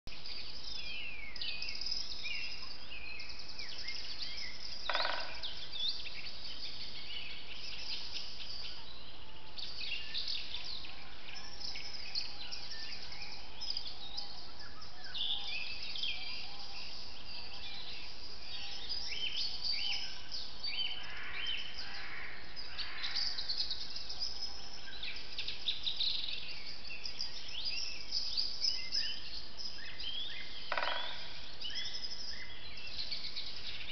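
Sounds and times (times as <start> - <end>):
forest birds singing and calling: 0.1 - 33.9.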